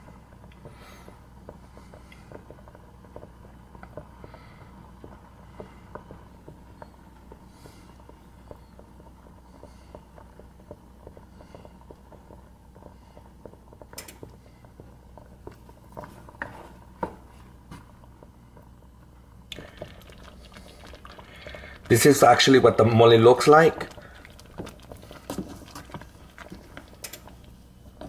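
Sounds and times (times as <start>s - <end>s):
low hum: 0.0s - 28.0s
thick sauce bubbling: 0.1s - 28.0s.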